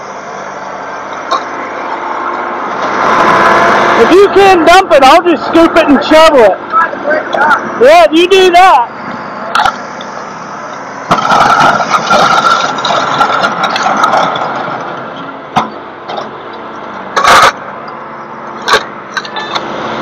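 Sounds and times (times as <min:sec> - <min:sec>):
heavy vehicle engine revving: 0:00.0 - 0:07.9, 0:08.8 - 0:20.0.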